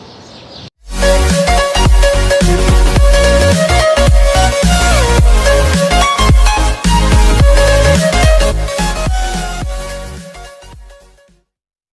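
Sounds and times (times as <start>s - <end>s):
electronic music with heavy beat: 0.9s - 11.2s.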